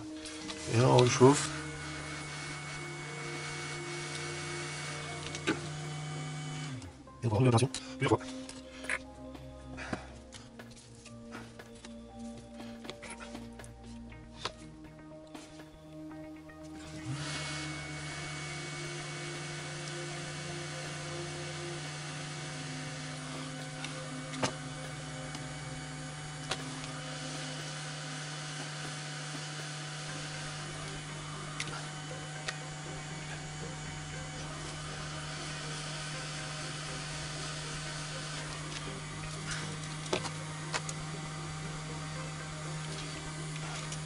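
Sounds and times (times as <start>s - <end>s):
hot air station hum: 0.0s - 44.0s.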